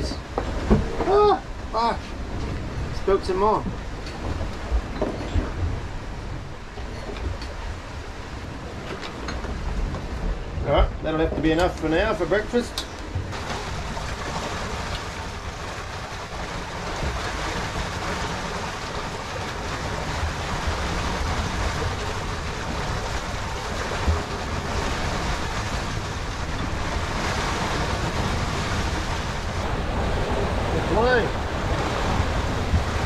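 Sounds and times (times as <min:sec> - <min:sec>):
water rushing along yacht hull: 0:00.0 - 0:33.0
wind buffeting microphone: 0:00.0 - 0:33.0.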